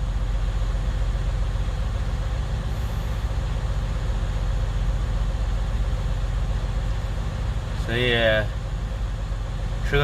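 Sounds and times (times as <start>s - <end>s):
truck diesel engine droning: 0.0s - 10.0s.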